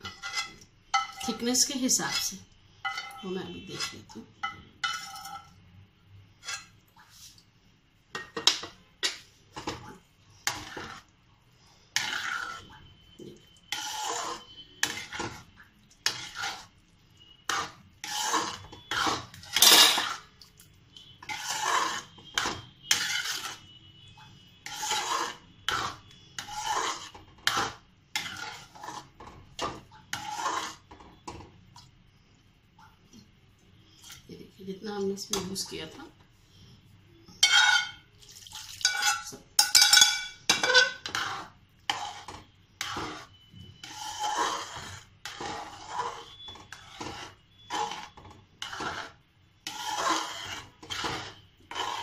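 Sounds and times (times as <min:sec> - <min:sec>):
spoon scraping a pot: 0:00.0 - 0:05.6, 0:06.3 - 0:07.5, 0:08.1 - 0:31.9, 0:33.1 - 0:52.0.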